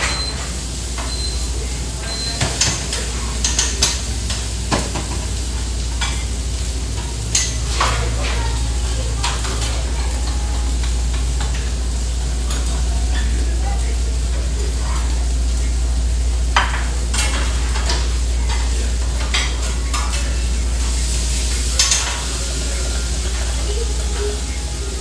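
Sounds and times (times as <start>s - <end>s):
food sizzling on grill: 0.0s - 25.0s.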